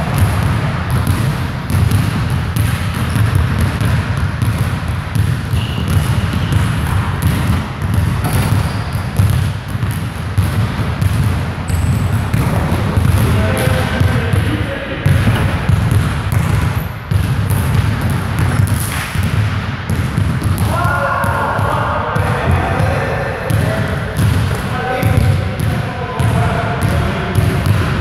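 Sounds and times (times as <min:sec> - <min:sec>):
basketballs bouncing on wooden floor: 0:00.0 - 0:28.0.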